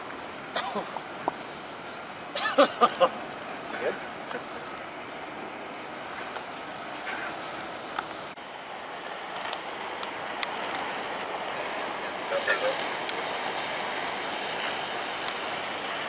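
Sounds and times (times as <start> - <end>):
outdoor street noise: 0.0 - 16.0
road flare fizzing hiss: 0.0 - 16.0.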